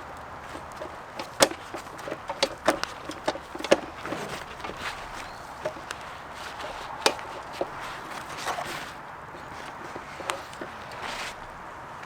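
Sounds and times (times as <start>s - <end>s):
brief rustle: 0.0s - 11.6s.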